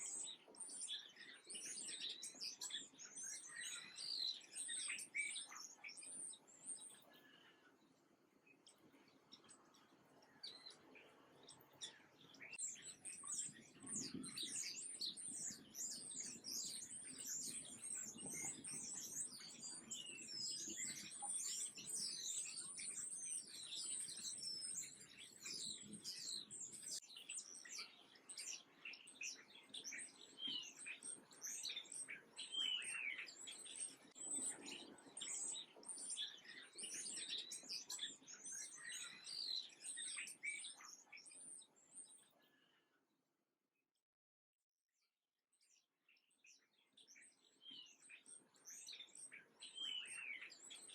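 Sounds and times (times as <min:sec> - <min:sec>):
songbirds chirping: 0:00.0 - 0:43.0, 0:45.6 - 0:50.9.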